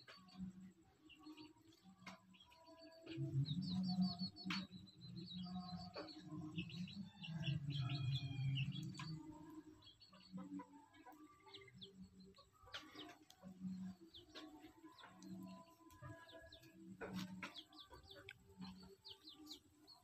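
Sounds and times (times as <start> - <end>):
chick peeping: 0.0 - 20.0.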